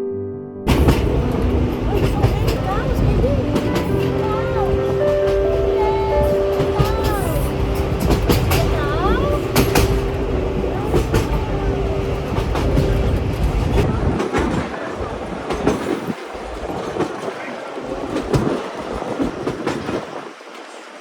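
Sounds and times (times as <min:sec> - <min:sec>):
train rumbling on rails: 0:00.6 - 0:21.0
clickety-clack of wheels: 0:00.7 - 0:21.0.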